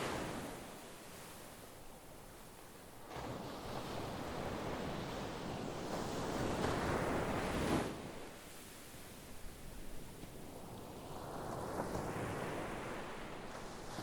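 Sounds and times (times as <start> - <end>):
sea waves on shore: 0.0 - 14.0.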